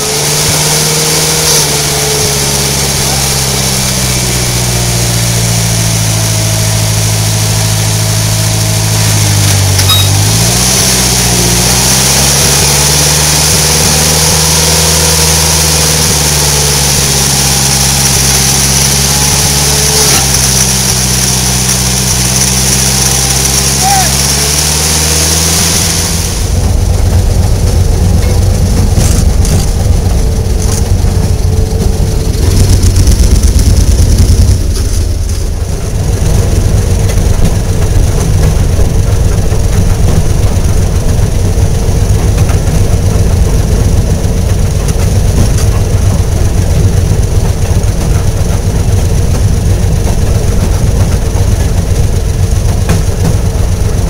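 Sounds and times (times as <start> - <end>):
engine idling: 0.0 - 54.0
rail motorcar rumbling on tracks: 0.0 - 54.0.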